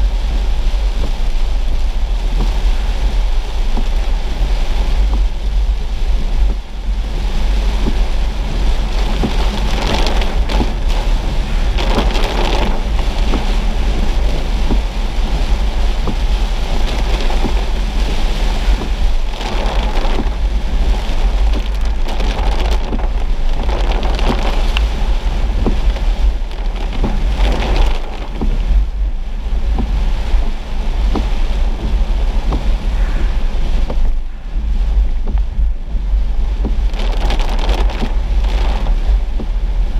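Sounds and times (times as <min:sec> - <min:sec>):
car rumbling on wet road: 0:00.0 - 0:39.9
heavy rain on car windshield: 0:00.0 - 0:39.9.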